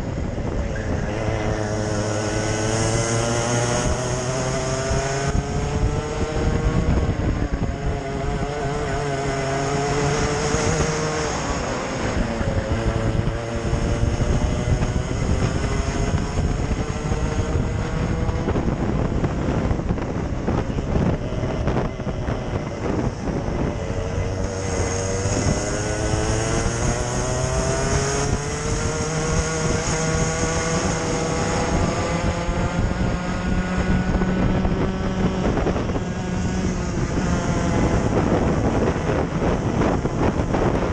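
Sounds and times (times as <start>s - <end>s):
two-stroke kart engine revving: 0.0s - 40.9s.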